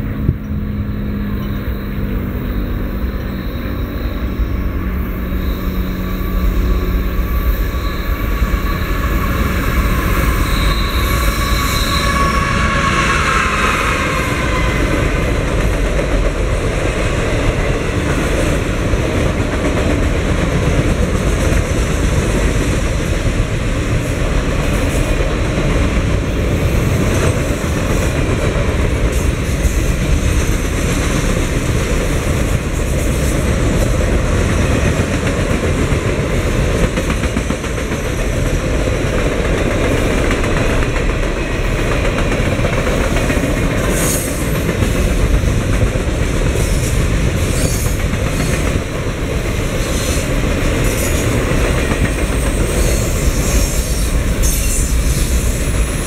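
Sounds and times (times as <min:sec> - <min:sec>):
diesel locomotive passing: 0:00.0 - 0:56.0
trailers rumbling and wheels clattering: 0:00.0 - 0:56.0.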